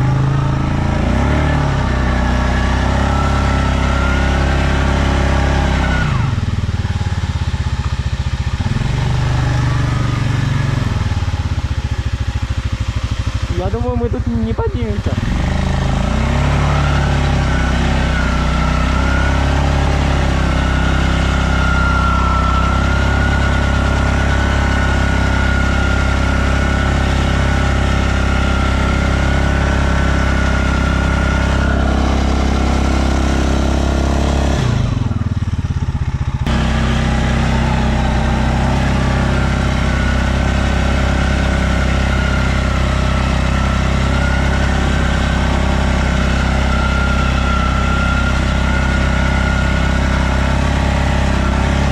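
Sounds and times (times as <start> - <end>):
quad engine running: 0.0 - 51.9.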